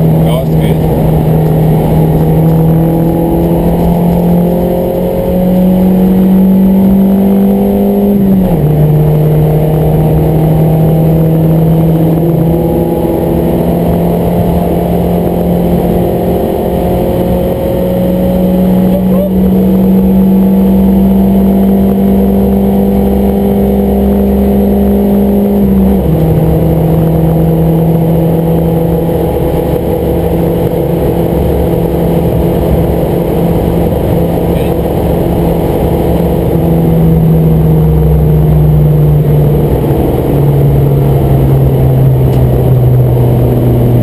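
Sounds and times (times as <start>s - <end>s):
car engine under load: 0.0s - 44.0s
road and wind noise: 0.0s - 44.0s.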